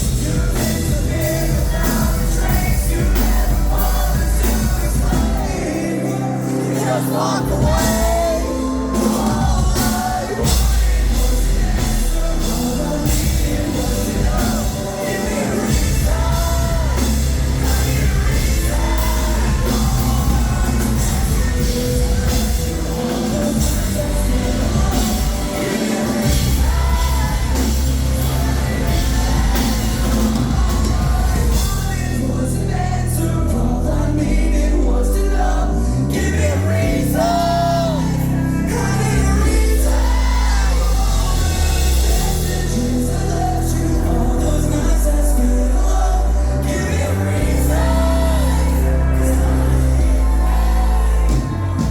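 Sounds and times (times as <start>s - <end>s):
live band playing: 0.0s - 51.9s
person singing: 0.0s - 51.9s.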